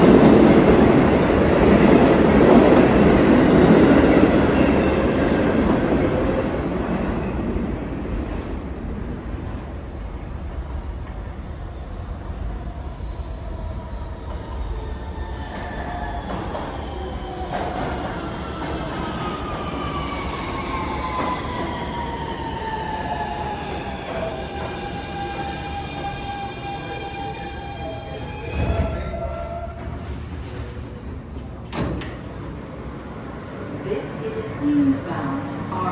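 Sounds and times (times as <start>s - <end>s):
subway train rumbling: 0.0s - 35.9s.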